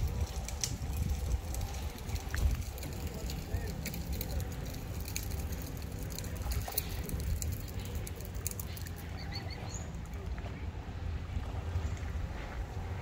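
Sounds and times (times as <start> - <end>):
steady low rumble: 0.0 - 13.0
waterbirds chirping: 0.0 - 13.0.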